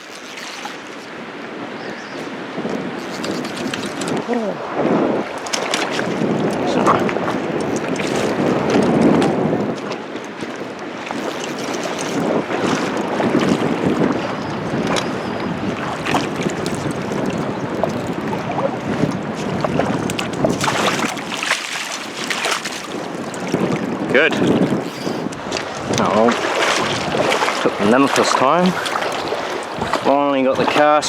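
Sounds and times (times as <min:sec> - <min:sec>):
river water rushing: 0:00.0 - 0:24.8, 0:25.4 - 0:31.0
wind buffeting microphone: 0:01.0 - 0:31.0.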